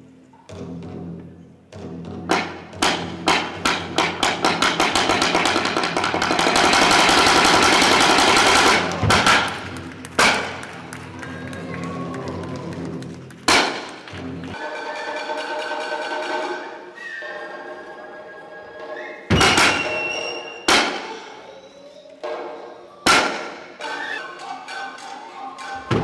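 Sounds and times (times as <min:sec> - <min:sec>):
percussion strikes and rapid roll: 0:00.5 - 0:21.4, 0:22.2 - 0:26.0.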